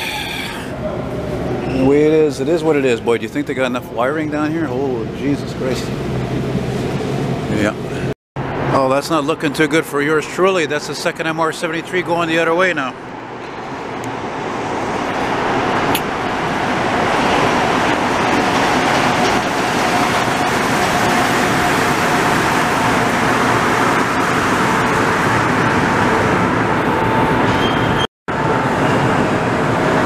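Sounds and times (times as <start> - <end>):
metro train rumbling: 0.0 - 30.0.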